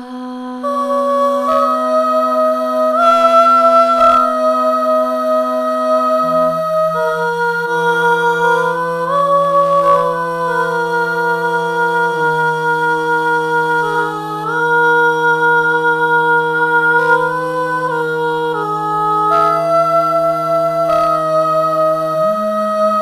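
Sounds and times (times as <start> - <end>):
sampled female voice singing chords: 0.0 - 23.0.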